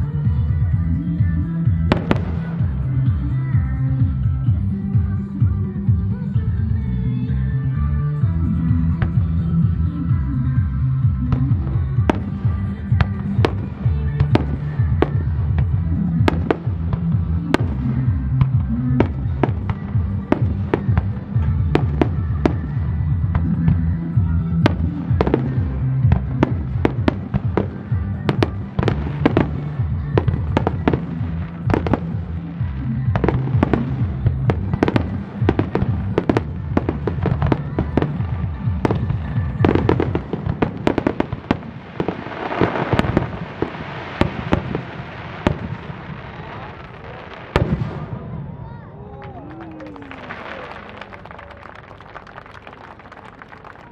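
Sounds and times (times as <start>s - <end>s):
music with low notes: 0.0s - 48.2s.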